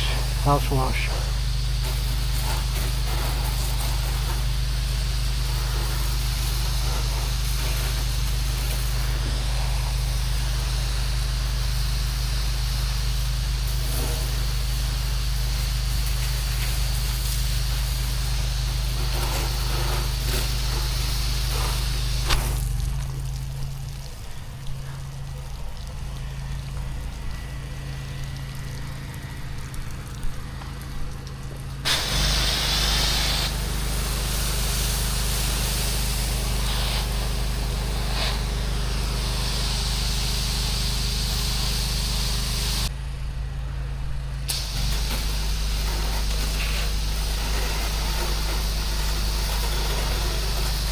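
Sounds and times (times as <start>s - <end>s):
water spray hissing: 0.0s - 42.9s, 44.5s - 50.9s
pressure washer engine running: 0.0s - 50.9s.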